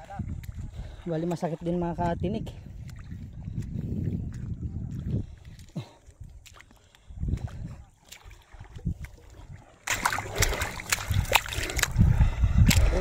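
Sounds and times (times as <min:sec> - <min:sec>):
splashing in shallow water: 0:00.0 - 0:13.0.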